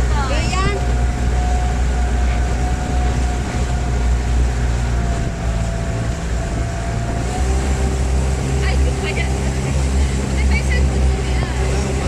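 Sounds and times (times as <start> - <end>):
boat engine droning: 0.0 - 12.0
rushing water: 0.0 - 12.0
wind: 0.0 - 12.0.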